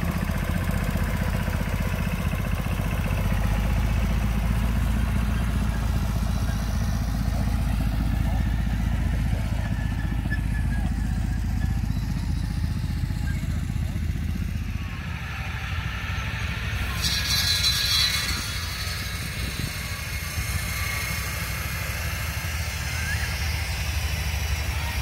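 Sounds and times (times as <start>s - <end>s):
engine rumbling: 0.0s - 25.0s
faint voices: 2.9s - 25.0s.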